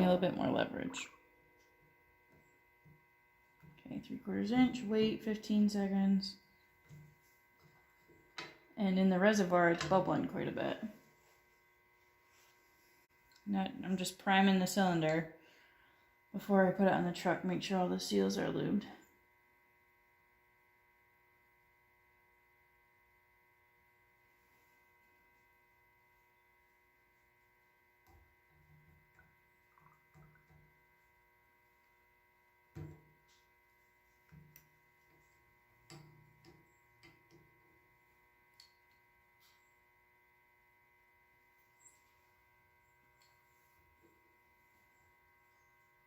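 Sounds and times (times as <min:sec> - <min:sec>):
steady electrical hum: 0:00.0 - 0:46.0.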